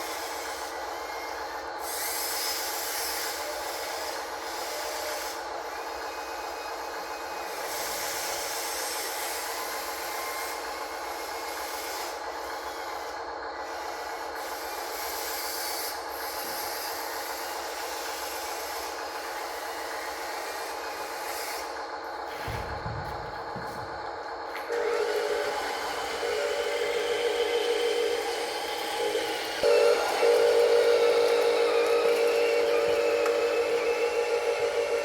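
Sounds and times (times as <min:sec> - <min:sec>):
small electric motors whining: 0:00.0 - 0:21.8, 0:24.5 - 0:35.0.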